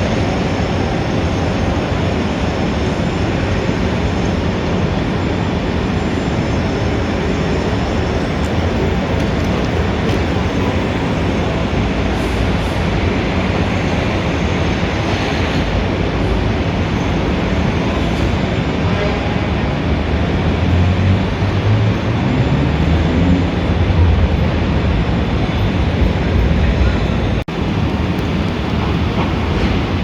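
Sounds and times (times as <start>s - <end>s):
city traffic noise: 0.0s - 30.0s.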